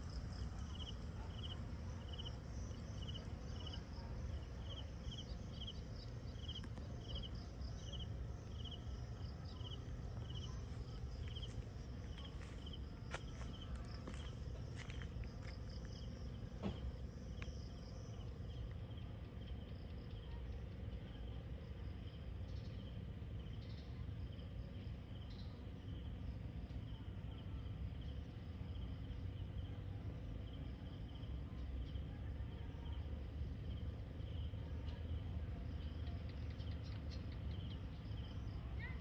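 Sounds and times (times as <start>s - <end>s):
insects chirping in pulses: 0.0s - 32.1s
low outdoor rumble: 0.0s - 39.0s.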